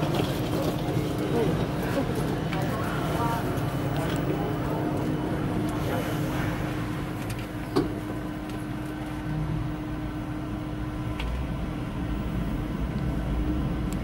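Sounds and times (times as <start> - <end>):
lift mechanical hum: 0.0 - 14.0.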